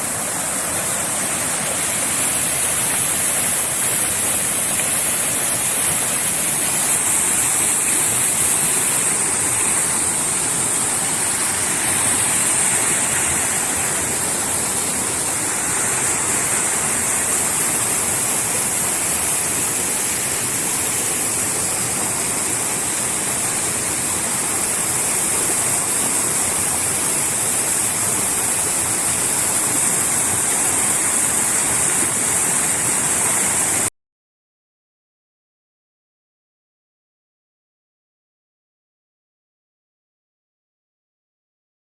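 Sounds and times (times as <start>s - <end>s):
water rushing over dam: 0.0s - 33.9s.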